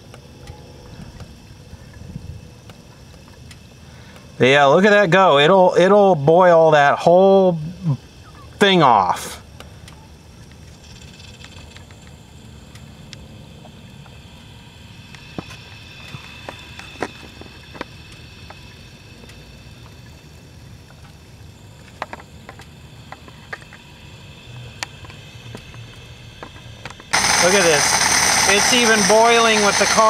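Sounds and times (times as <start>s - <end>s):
fuel boiling ticks and pops: 0.0s - 30.0s.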